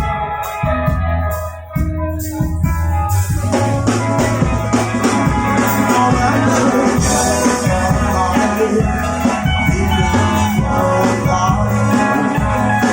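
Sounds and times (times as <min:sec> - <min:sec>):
drums and cymbals: 0:00.0 - 0:12.9
rock band playing: 0:00.0 - 0:12.9.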